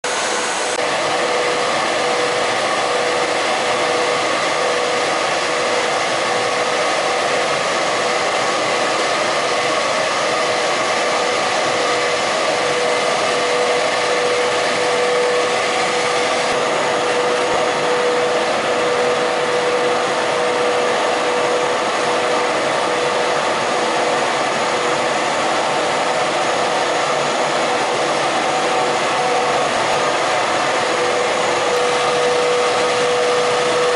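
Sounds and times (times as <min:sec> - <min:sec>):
machine whirring and humming: 0:00.0 - 0:33.9.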